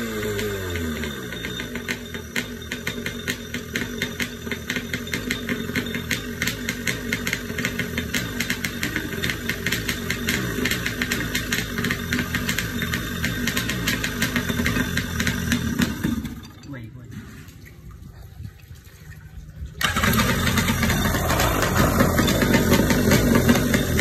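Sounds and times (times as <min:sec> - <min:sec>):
two-stroke engine running: 0:00.0 - 0:16.8, 0:19.8 - 0:24.0.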